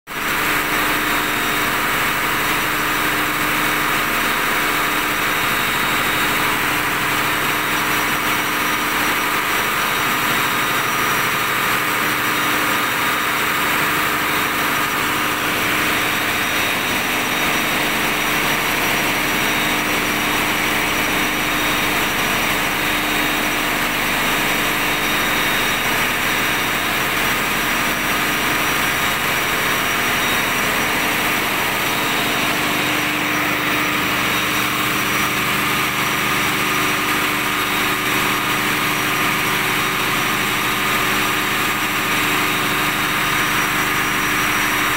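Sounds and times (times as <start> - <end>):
diesel generators running: 0.1 - 44.9.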